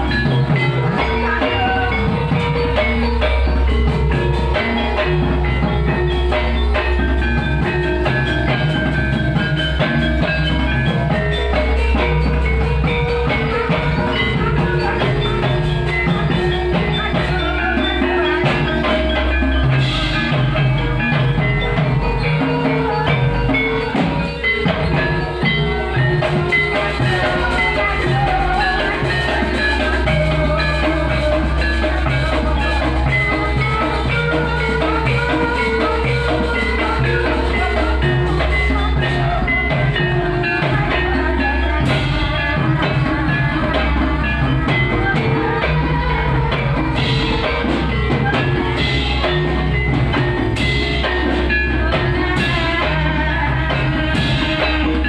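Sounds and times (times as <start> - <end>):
drums playing: 0.0 - 55.0
tuned mallet percussion: 0.0 - 55.0.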